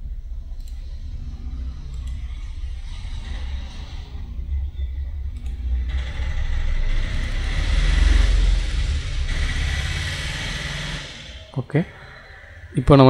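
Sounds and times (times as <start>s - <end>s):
low rumble with hiss: 0.0s - 13.0s.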